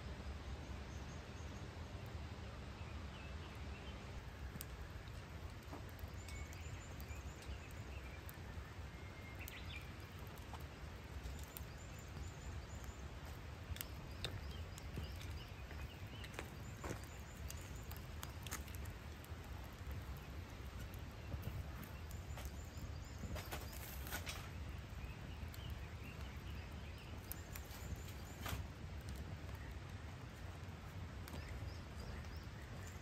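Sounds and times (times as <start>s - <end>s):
fire low rumble: 0.0s - 33.0s
wood fire crackling and popping: 4.2s - 33.0s.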